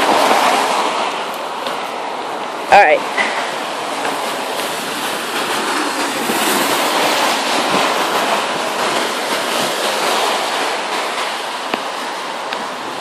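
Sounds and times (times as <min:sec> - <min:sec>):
storm wind through leaves: 0:00.0 - 0:13.0.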